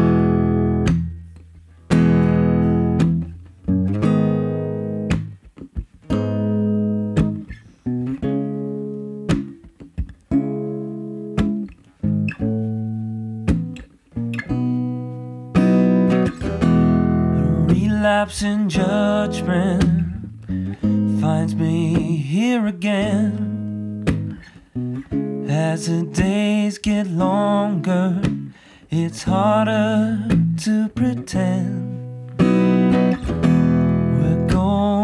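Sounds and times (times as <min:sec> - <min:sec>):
acoustic guitar chords ringing: 0:00.0 - 0:05.4, 0:10.3 - 0:35.0.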